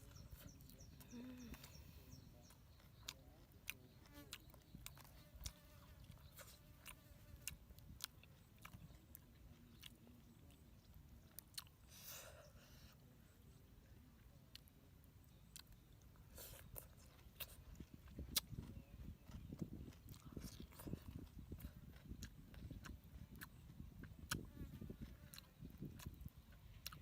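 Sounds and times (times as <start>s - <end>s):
person chewing crunchy food: 0.0s - 12.4s, 15.4s - 27.0s.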